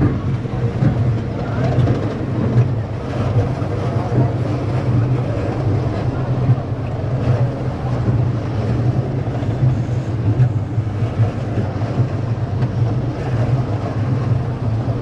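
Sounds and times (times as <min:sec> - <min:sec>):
roller coaster lift chain: 0:00.0 - 0:15.0.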